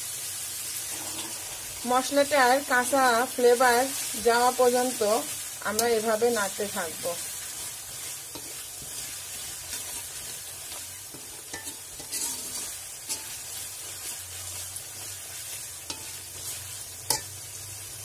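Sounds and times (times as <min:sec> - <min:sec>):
onions sizzling in hot oil: 0:00.0 - 0:18.0
metal spatula scraping a wok: 0:00.7 - 0:17.5.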